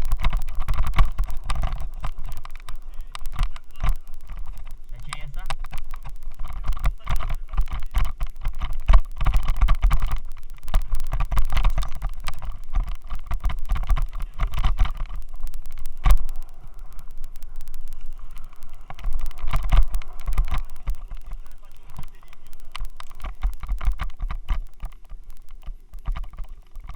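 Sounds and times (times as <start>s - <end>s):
low rumble: 0.0s - 26.9s.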